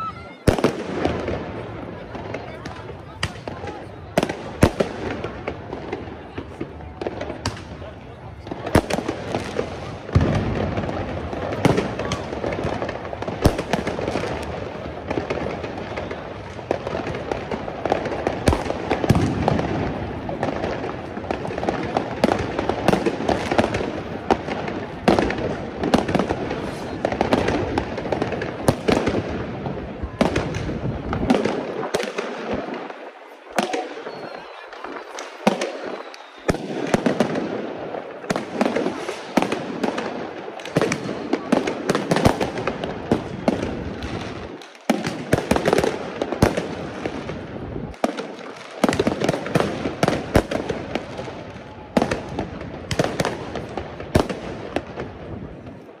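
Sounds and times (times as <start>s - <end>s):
firecrackers banging: 0.0s - 56.0s
fireworks crackling: 0.0s - 56.0s.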